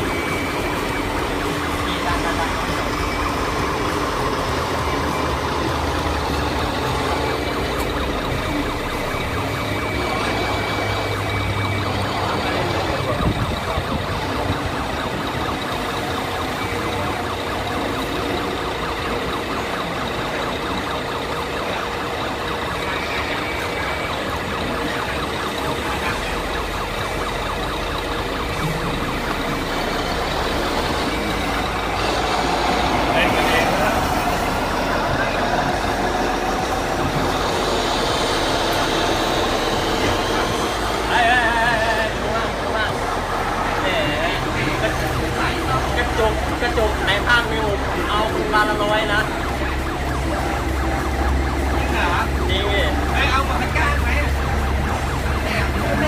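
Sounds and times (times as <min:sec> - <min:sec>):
siren wailing: 0:00.0 - 0:56.0.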